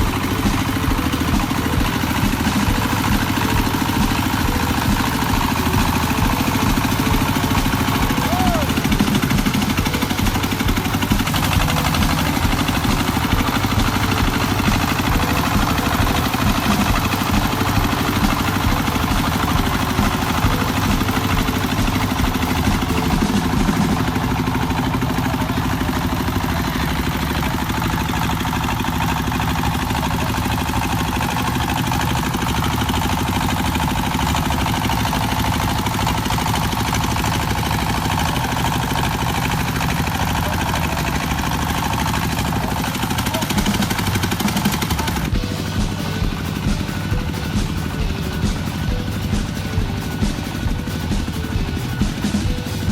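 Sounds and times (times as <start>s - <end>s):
farm vehicle engine chugging: 0.0s - 52.9s.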